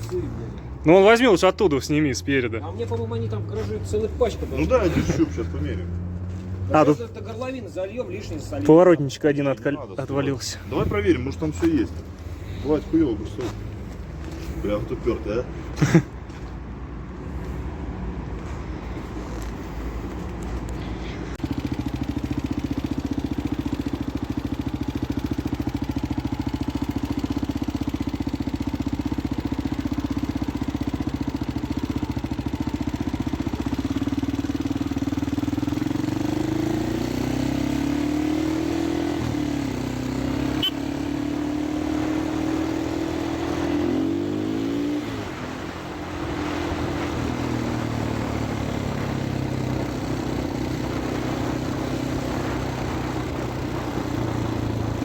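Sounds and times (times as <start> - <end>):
motorcycle engine revving: 0.0 - 16.4, 17.2 - 55.0.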